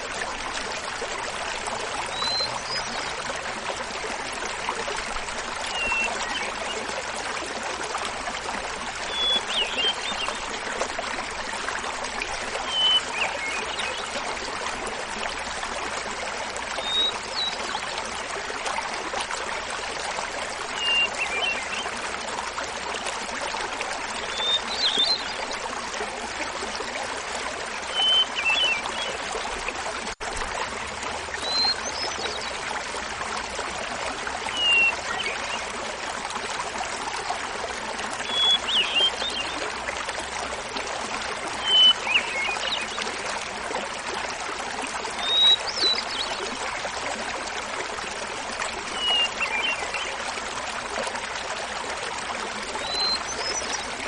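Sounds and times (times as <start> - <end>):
small waterfall babbling: 0.0 - 54.0.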